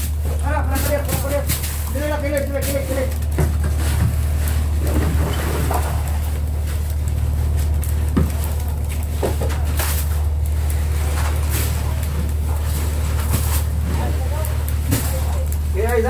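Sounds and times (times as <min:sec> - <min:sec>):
low machine drone: 0:00.0 - 0:16.0.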